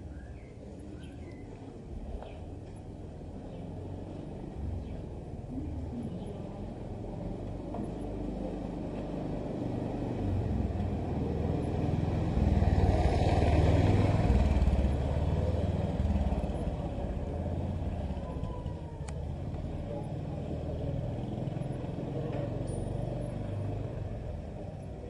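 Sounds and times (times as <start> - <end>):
vehicle engine rumble passing: 0.0 - 25.0.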